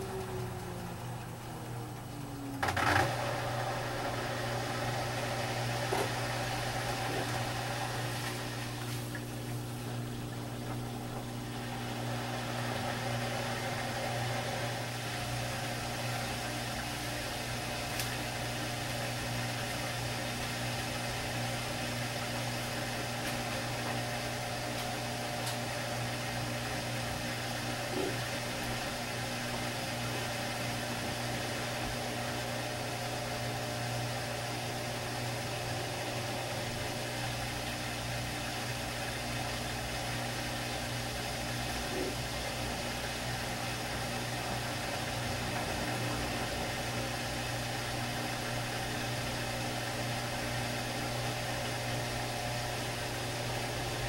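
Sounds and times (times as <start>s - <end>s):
low machine hum: 0.0s - 54.0s
water running into drum: 0.0s - 54.0s.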